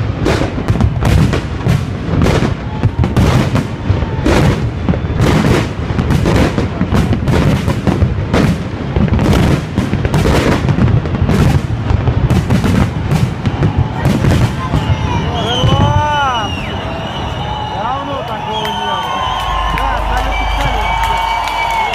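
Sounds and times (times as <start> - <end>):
fireworks bangs and booms: 0.0 - 21.9.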